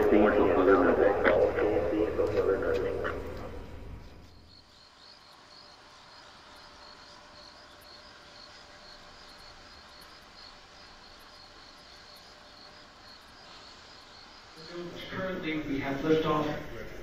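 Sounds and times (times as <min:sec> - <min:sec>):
crickets chirping: 0:00.0 - 0:17.0
faint steady hum: 0:00.0 - 0:17.0.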